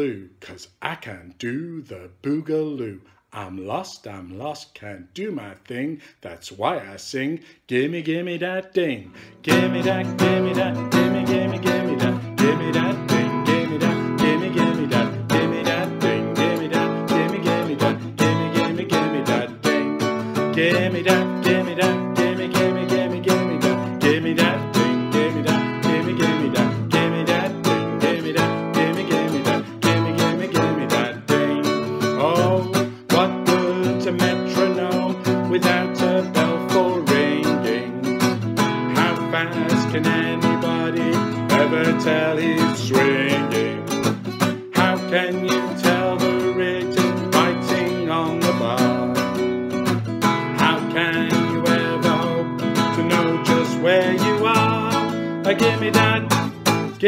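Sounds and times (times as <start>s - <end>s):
man singing pop song: 0.0s - 57.0s
acoustic guitar strumming: 9.1s - 57.0s.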